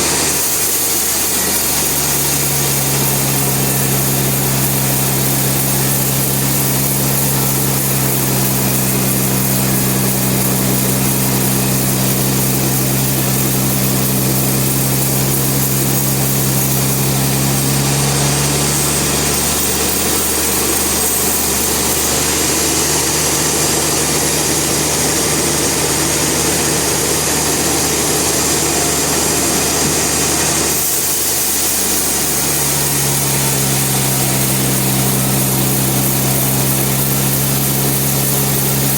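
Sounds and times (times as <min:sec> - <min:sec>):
saw hissing: 0:00.0 - 0:38.9
sawmill engine hum: 0:00.0 - 0:38.9.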